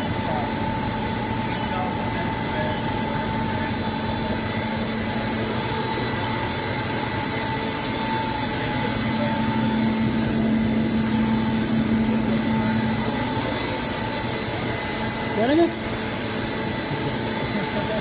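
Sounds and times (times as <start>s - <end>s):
constant whining tones: 0.0s - 18.0s
machine hum: 0.0s - 18.0s.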